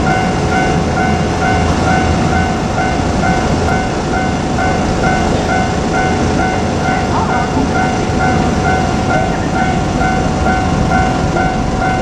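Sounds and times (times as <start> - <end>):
diesel railcar rumbling past: 0.0 - 12.0
level crossing warning bell: 0.0 - 12.0.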